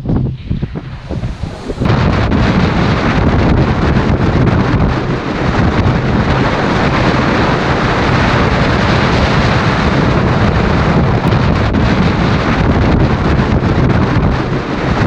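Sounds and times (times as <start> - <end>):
gusty wind on microphone: 0.0 - 15.0.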